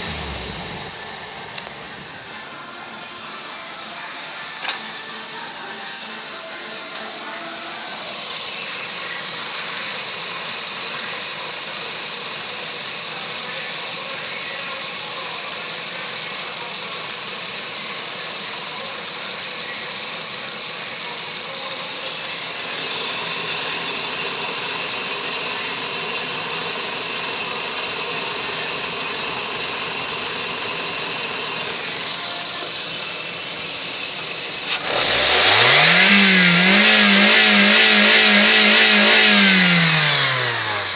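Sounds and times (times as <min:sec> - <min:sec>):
car engine running and revving: 0:00.0 - 0:02.6, 0:07.9 - 0:40.9.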